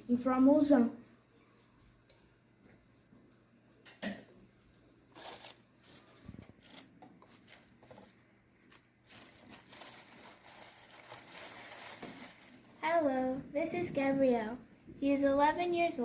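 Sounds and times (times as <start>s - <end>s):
faint rustling and handling noise: 0.7s - 3.6s, 4.6s - 16.0s.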